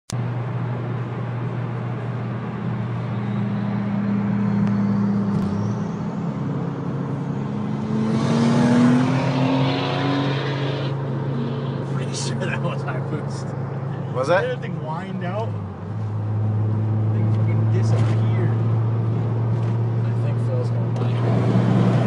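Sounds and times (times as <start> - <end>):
car engine droning: 0.1 - 22.0.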